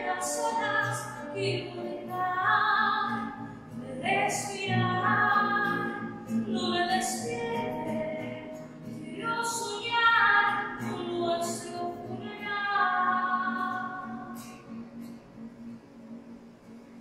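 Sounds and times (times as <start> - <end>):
woman singing: 0.0 - 14.5
classical guitar: 0.0 - 17.0.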